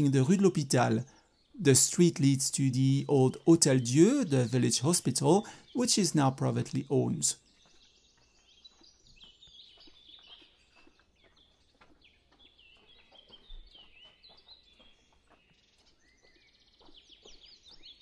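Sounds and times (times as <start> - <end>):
faint songbird chirping: 0.0 - 18.0.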